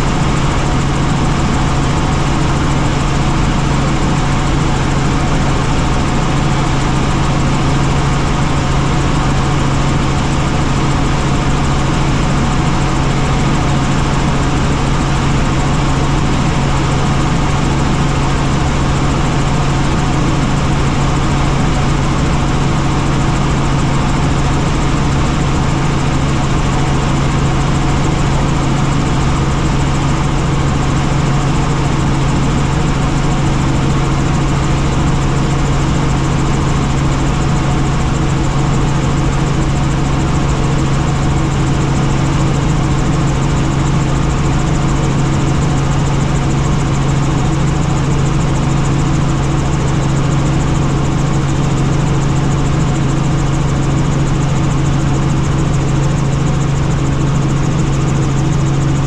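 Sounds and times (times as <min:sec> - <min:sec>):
helicopter engine and rotors: 0:00.0 - 0:59.0.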